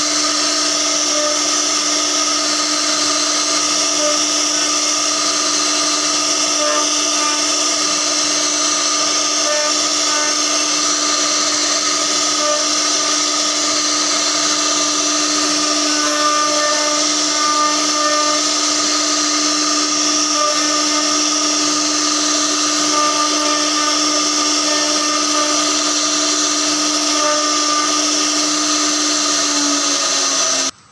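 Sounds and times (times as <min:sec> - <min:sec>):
bit cutting wood hiss: 0:00.0 - 0:30.8
router spindle whine: 0:00.0 - 0:30.9.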